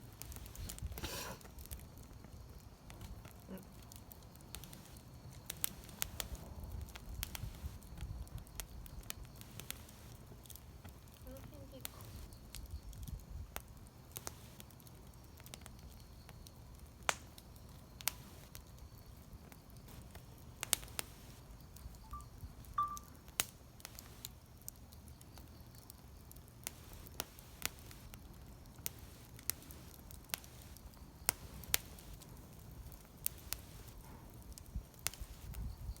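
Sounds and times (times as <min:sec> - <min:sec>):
campfire crackling: 0:00.0 - 0:36.0.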